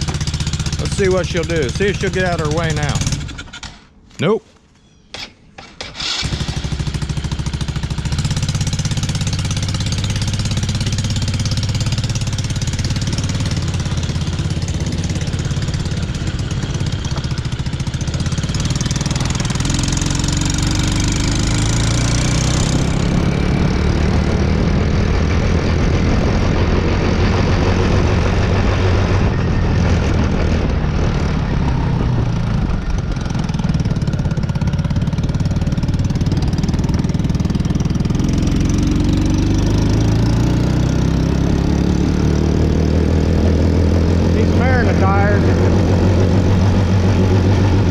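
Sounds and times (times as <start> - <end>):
small engine running: 0.0 - 3.7, 5.8 - 47.9.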